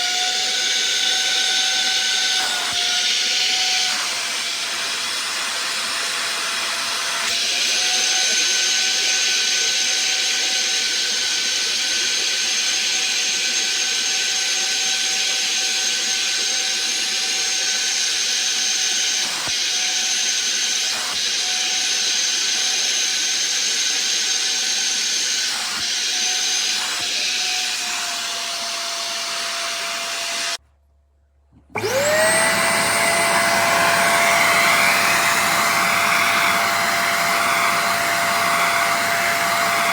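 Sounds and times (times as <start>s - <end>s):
vacuum cleaner motor whining: 0.0s - 30.6s, 31.6s - 39.9s.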